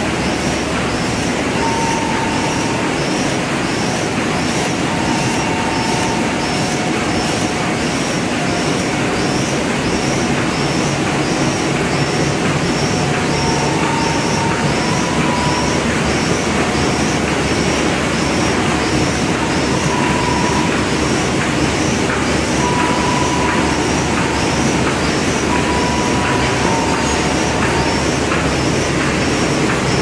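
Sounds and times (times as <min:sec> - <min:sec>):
laminating machine running: 0:00.0 - 0:30.0
thin machine whines: 0:00.1 - 0:30.0.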